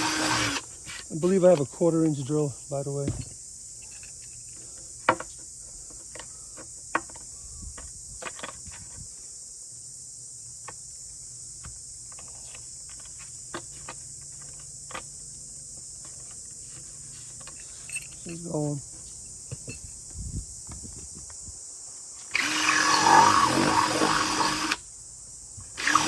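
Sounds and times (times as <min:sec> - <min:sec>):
high-pitched hiss: 0:00.0 - 0:26.0.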